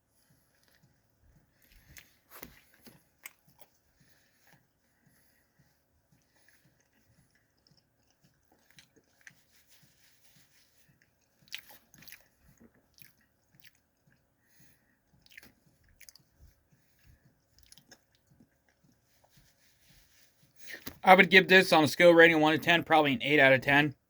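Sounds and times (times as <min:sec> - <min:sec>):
close chewing with small crunches: 0:00.0 - 0:21.0.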